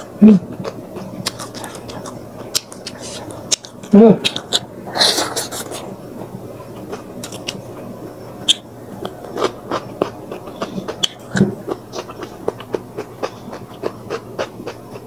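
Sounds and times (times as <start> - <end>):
chewing crispy food: 0.0 - 15.0.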